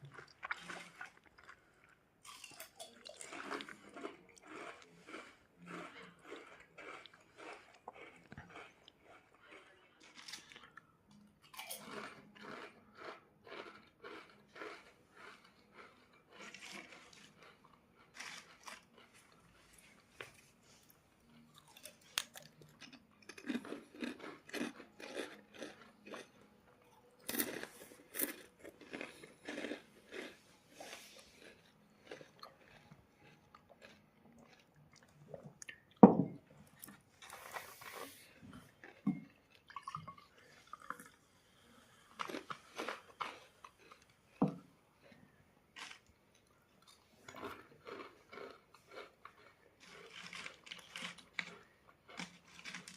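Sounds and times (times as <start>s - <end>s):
crunchy chewing of snacks: 0.0s - 52.9s.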